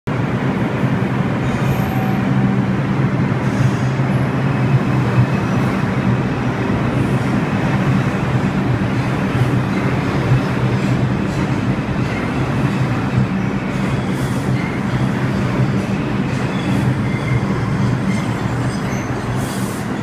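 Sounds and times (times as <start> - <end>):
subway train rumbling past: 0.1 - 20.0.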